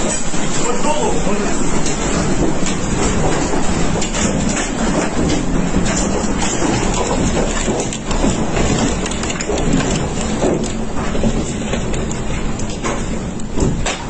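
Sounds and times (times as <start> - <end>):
knocks and crackles: 0.0 - 14.0
tornado wind roaring: 0.0 - 14.0.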